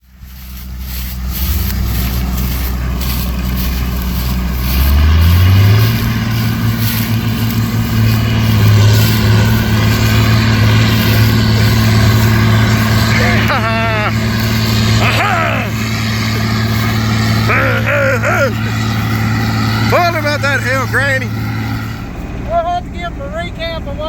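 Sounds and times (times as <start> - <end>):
heavy diesel engine revving: 0.0 - 24.0.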